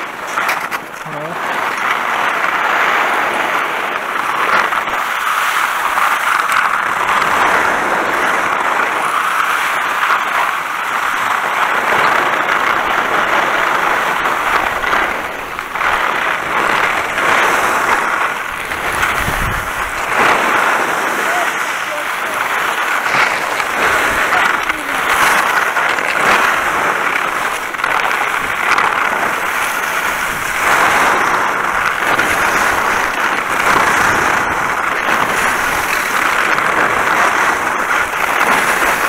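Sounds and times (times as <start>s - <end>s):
skis sliding over wet snow: 0.0s - 39.0s
wind on microphone: 7.2s - 39.0s.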